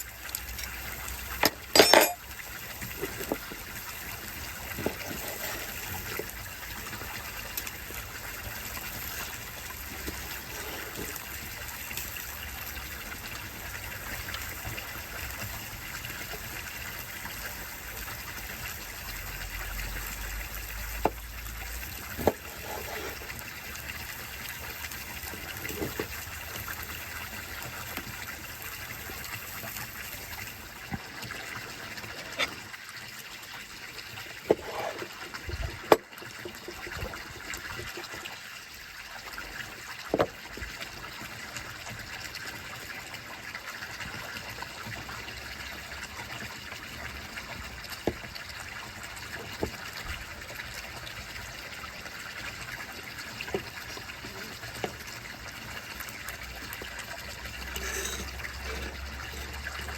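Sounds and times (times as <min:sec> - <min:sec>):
water gushing: 0:00.0 - 0:59.9.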